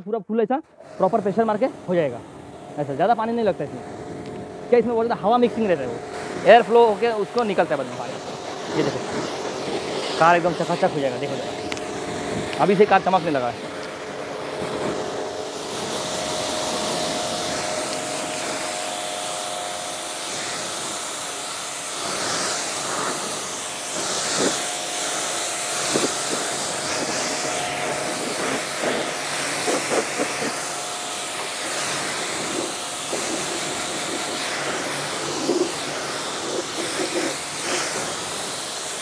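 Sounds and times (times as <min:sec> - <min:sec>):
pressure washer motor tone: 0:00.6 - 0:39.0
pressure washer spraying water: 0:00.8 - 0:39.0.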